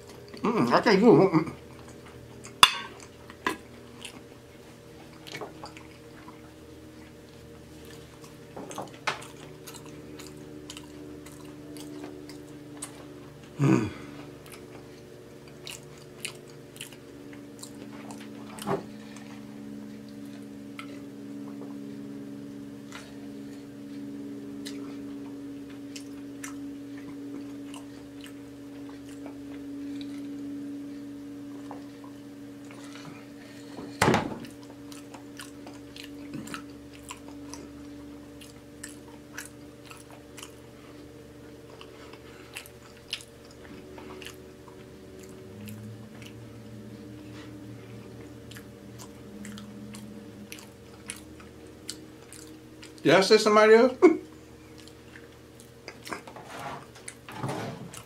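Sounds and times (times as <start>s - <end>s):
low hum: 0.0s - 58.0s
person chewing: 1.6s - 53.0s, 54.2s - 57.3s.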